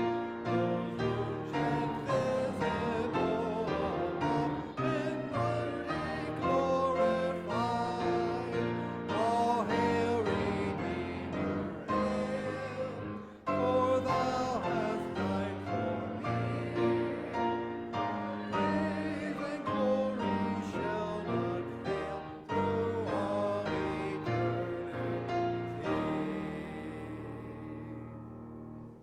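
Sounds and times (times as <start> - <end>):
piano chords: 0.0 - 29.0.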